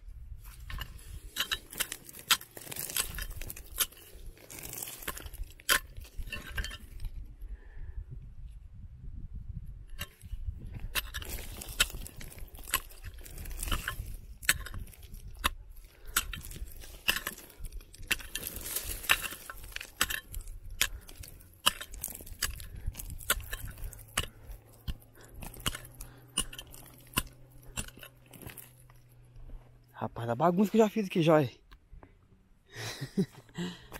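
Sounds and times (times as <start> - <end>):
stones clinking and scraping: 0.4 - 7.2, 9.9 - 31.2.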